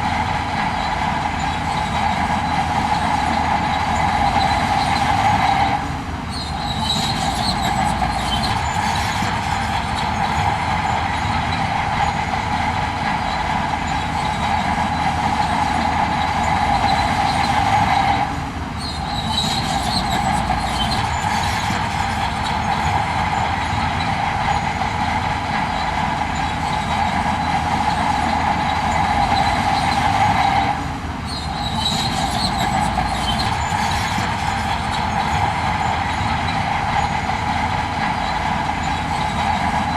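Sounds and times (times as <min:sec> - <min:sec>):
heavy machinery engine drone: 0:00.0 - 0:39.9.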